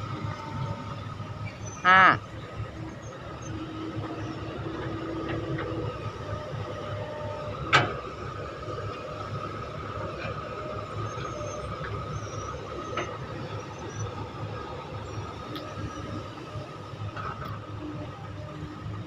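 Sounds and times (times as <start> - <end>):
excavator engine rumble: 0.0 - 19.0.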